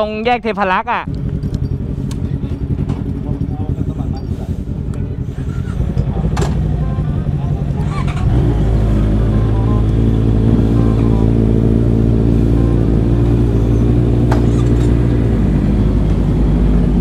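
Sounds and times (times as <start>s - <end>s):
motorcycle engines idling: 0.0s - 17.0s.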